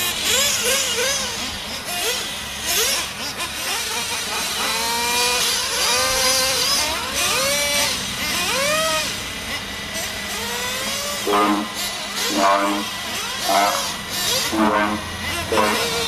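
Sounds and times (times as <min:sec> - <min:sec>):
small glow engines revving: 0:00.0 - 0:16.0.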